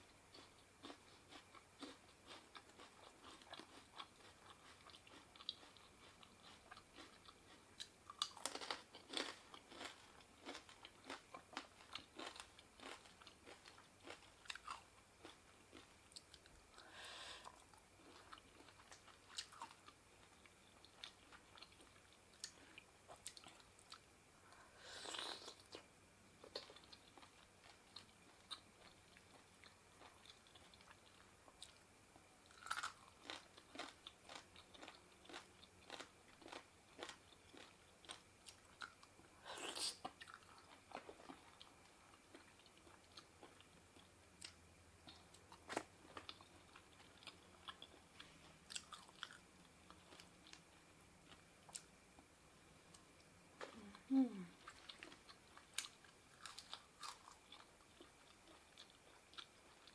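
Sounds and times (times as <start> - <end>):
person chewing and crunching food: 0.0 - 59.9.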